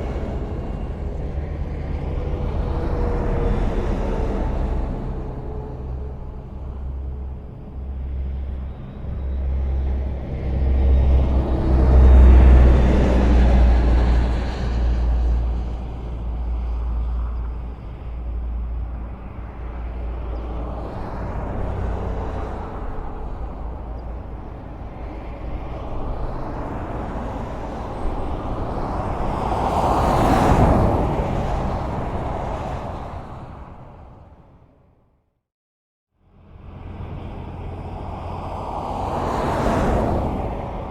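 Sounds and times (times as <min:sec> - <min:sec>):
road traffic rumble: 0:00.0 - 0:35.0, 0:36.2 - 0:40.9
vehicles passing by: 0:00.0 - 0:35.0, 0:36.2 - 0:40.9.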